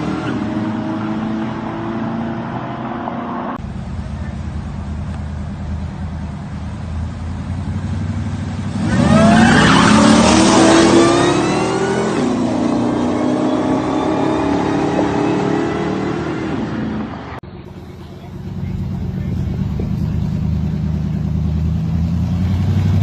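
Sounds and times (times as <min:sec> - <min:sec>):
drag race cars accelerating: 0:00.0 - 0:05.1, 0:07.4 - 0:23.0.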